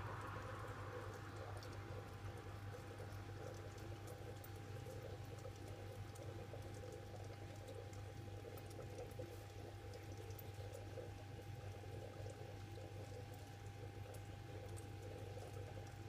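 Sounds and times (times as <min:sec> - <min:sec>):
aquarium water bubbling: 0:00.0 - 0:16.0.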